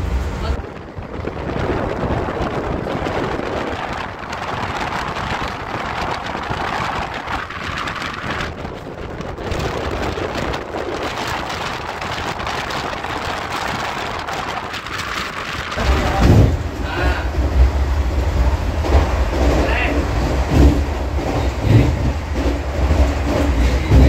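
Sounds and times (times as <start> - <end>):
train running noise and wind: 0.0 - 24.0.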